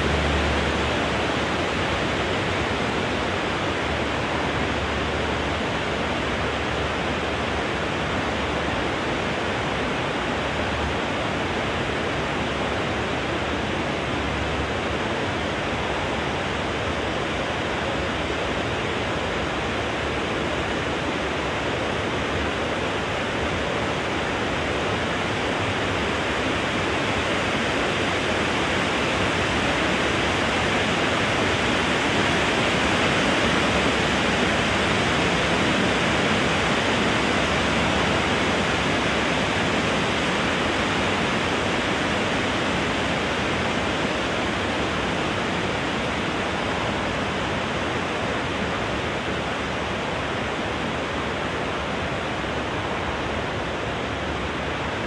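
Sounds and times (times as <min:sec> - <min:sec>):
wind blowing through trees: 0:00.0 - 0:55.0.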